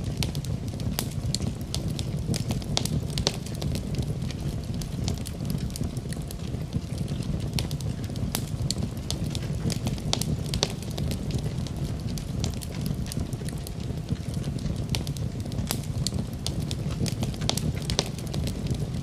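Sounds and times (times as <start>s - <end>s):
fire crackling and popping: 0.0s - 19.0s
flames rumbling in a fireplace: 0.0s - 19.0s.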